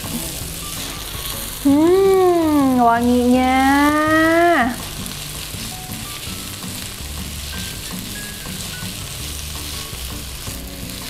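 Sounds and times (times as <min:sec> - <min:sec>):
meat and onion sizzling in oil: 0:00.0 - 0:11.0.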